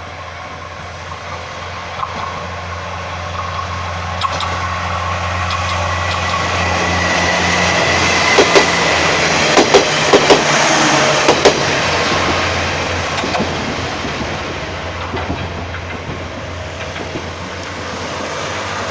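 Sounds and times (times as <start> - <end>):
train rumbling past: 0.0 - 18.9.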